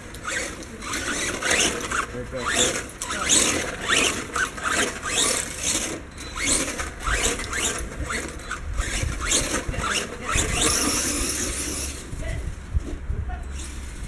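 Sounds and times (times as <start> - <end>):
toy truck motor whining: 0.0 - 12.1.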